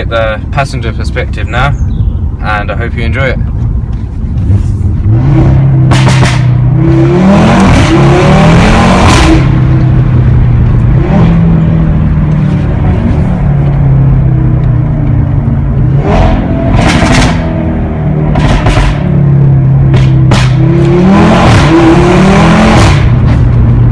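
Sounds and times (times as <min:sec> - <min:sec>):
car engine accelerating: 0:03.4 - 0:23.9.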